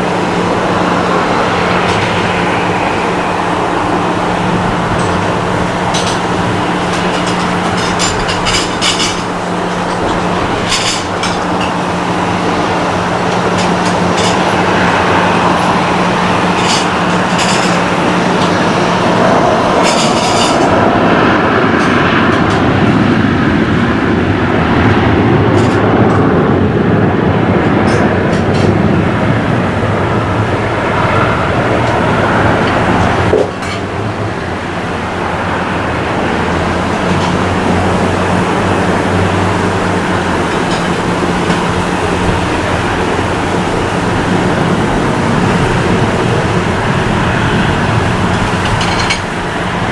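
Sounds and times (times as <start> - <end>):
jet engine roar: 0.0 - 49.9.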